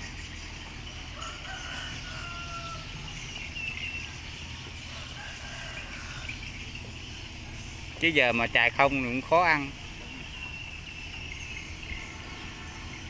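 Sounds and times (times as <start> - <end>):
distant animal calls: 0.0 - 13.0.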